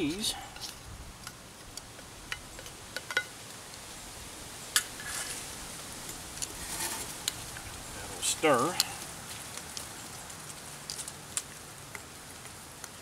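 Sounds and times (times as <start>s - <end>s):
wood stove crackle and hiss: 0.0s - 13.0s.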